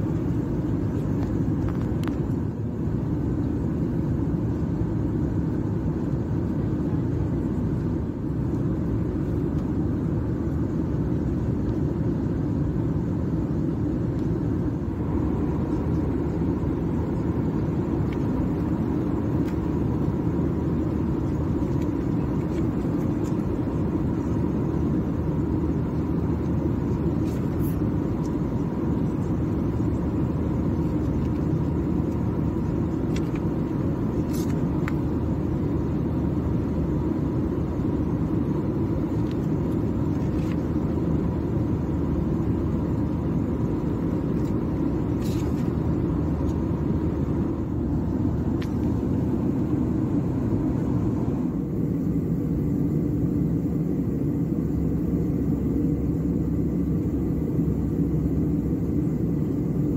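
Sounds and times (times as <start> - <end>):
aircraft cabin engine roar: 0.0 - 59.9
faint steady whine: 0.0 - 59.9.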